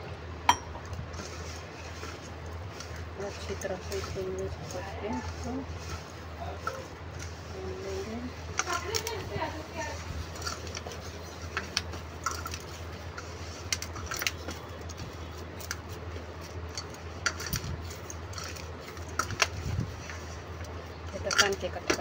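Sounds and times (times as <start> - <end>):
steady low hum: 0.0 - 21.9
hand kneading dough in bowl: 0.0 - 22.0.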